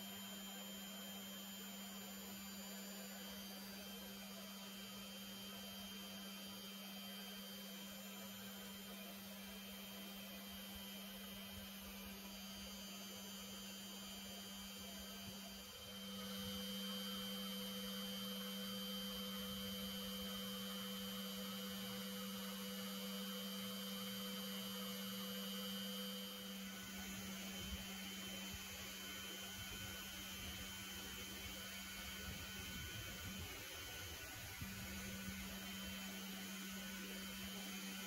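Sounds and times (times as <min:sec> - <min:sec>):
vacuum motor humming: 0:00.0 - 0:38.0.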